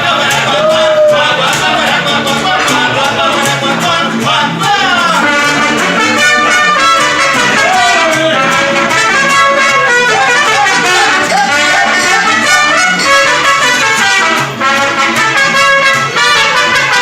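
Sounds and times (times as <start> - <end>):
person singing: 0.0 - 14.0
mariachi band playing: 0.0 - 17.0.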